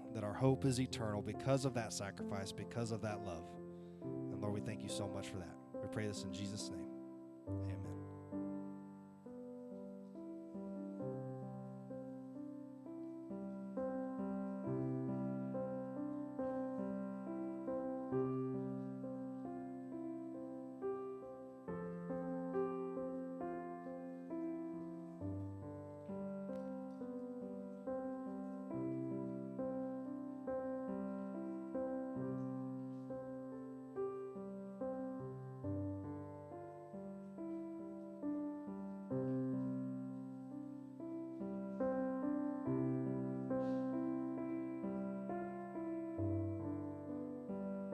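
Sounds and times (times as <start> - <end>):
slow soft piano chords: 0.0 - 47.9.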